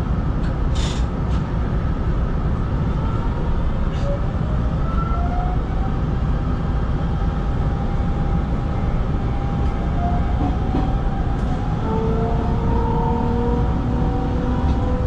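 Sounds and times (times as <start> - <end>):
electric train rolling rumble: 0.0 - 15.0.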